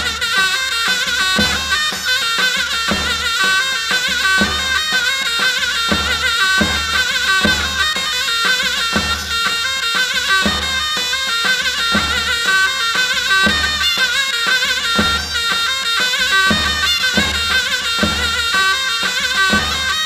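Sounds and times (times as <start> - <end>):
steady drum beat: 0.0 - 20.0
wind instrument melody: 0.0 - 20.0.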